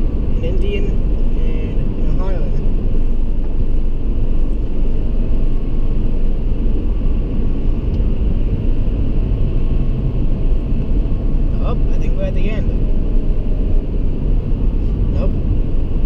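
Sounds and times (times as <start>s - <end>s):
low rumble of tunnel traffic: 0.0s - 16.0s.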